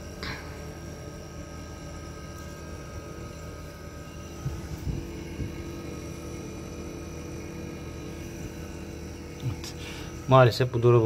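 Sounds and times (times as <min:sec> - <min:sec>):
refrigerator compressor humming: 0:00.0 - 0:11.0.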